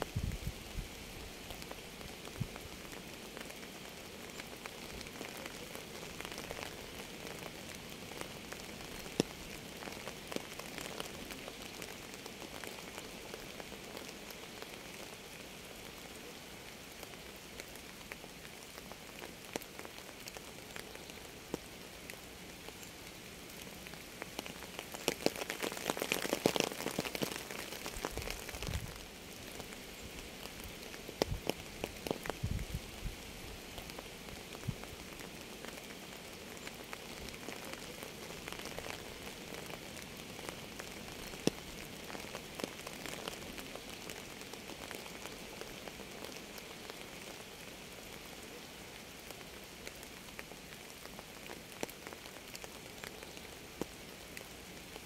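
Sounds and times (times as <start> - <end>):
steady rain falling: 0.0 - 55.0
raindrops tapping on a surface: 1.4 - 15.3, 17.0 - 22.8, 23.6 - 32.9, 33.7 - 48.1, 49.2 - 55.0.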